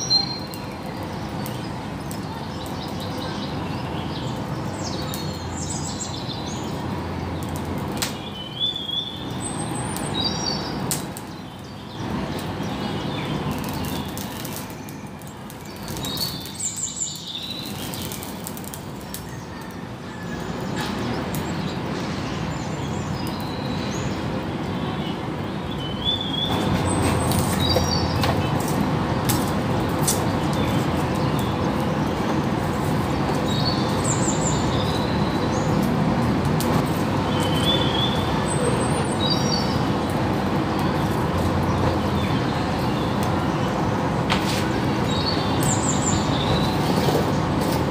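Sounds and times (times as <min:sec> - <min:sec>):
rushing background noise: 0:00.0 - 0:47.9
small birds chirping: 0:00.0 - 0:47.9.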